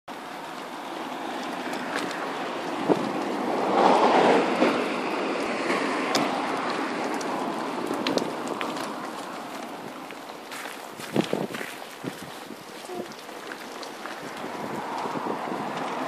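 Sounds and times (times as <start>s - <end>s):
pram wheels rolling on tarmac: 0.1s - 16.0s.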